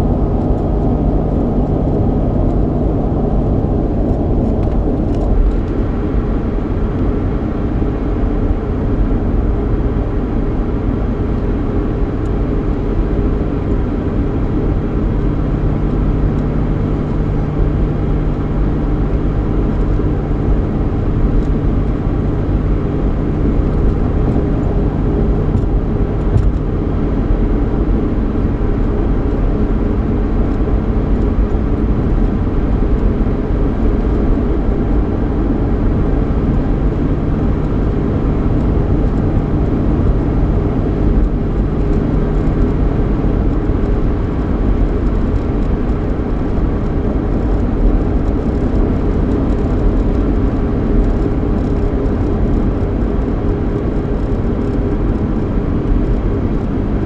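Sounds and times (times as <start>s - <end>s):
car cabin road noise and engine hum: 0.0s - 57.0s.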